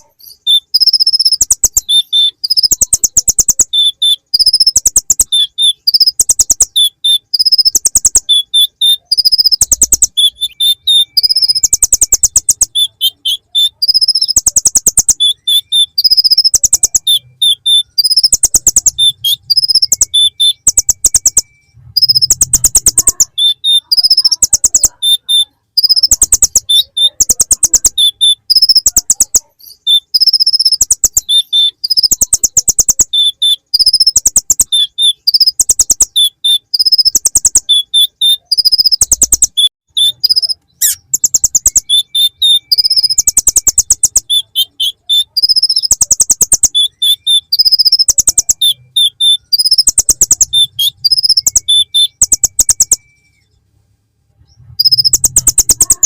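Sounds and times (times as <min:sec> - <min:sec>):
bird singing rattling trills and chirps: 0:00.0 - 0:53.5, 0:54.4 - 0:56.0.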